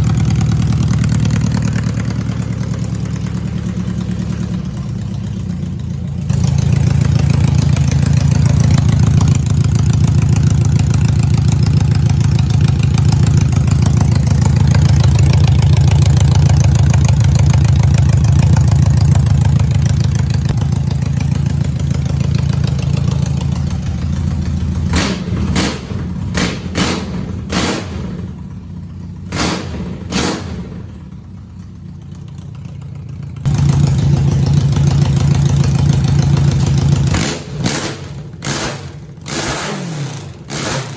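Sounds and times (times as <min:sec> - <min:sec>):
motorcycle engine idling: 0:00.0 - 0:39.4
sharp exhaust cracks: 0:00.0 - 0:40.9.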